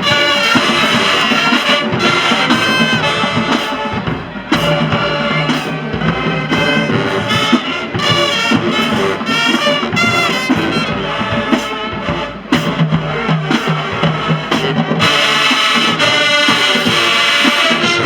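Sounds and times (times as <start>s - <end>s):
marching band playing: 0.0s - 18.0s.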